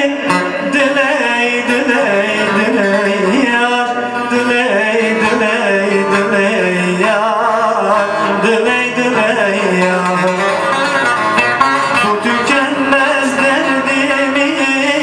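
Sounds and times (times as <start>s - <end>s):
long-necked lute playing: 0.0s - 15.0s
man singing folk song: 0.0s - 15.0s.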